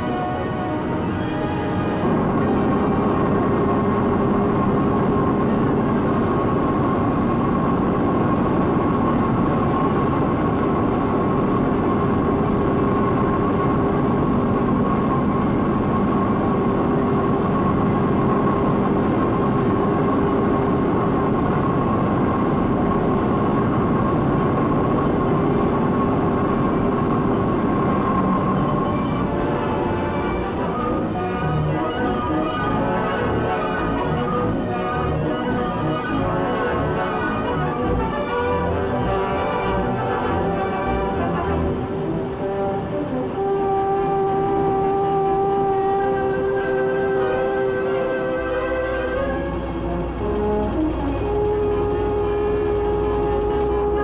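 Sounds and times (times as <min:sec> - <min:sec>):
constant machine hum: 0:00.0 - 0:54.0
heavy machinery din: 0:00.0 - 0:54.0.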